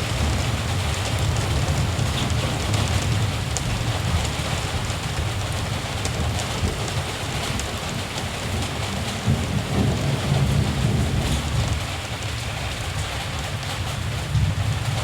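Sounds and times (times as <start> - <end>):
rain pattering: 0.0 - 15.0
distant thunder rumble: 0.1 - 12.2.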